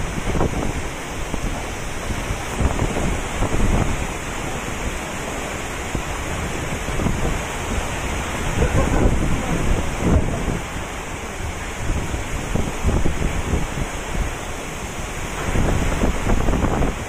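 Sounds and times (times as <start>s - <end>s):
heavy rain: 0.0s - 17.0s
strong wind buffeting microphone: 0.0s - 17.0s.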